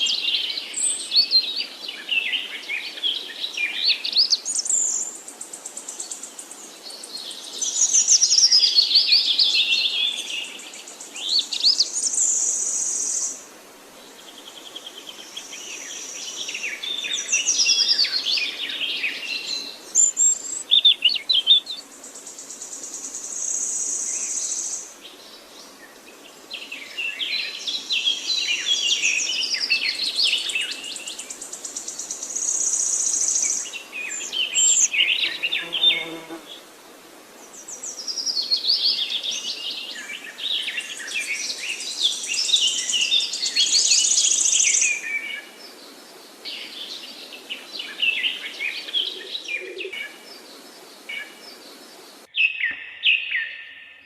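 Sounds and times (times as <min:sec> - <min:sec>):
songbirds singing: 0:00.0 - 0:36.7, 0:37.3 - 0:54.0.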